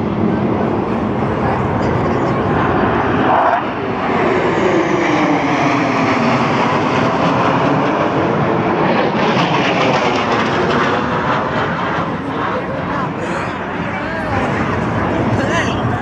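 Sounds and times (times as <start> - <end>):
aircraft flying past: 0.0 - 16.0.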